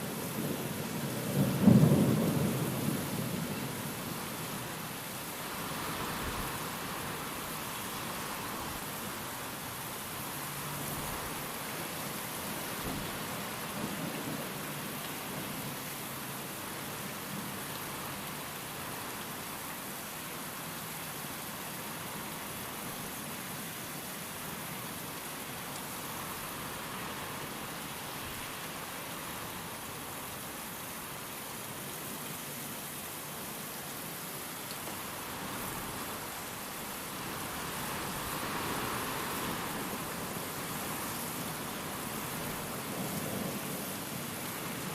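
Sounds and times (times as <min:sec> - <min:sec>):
steady rain hissing: 0:00.0 - 0:44.9
wind: 0:00.0 - 0:44.9.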